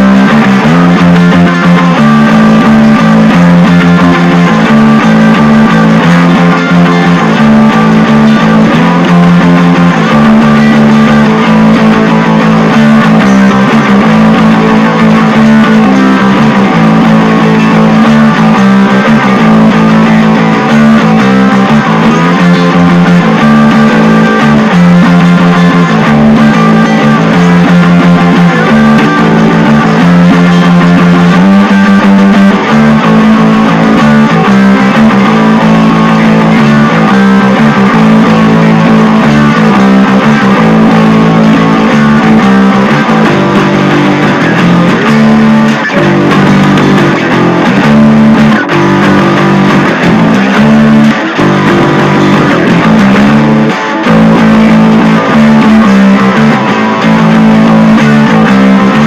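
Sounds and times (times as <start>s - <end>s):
guitar-led instrumental music: 0.0s - 59.0s.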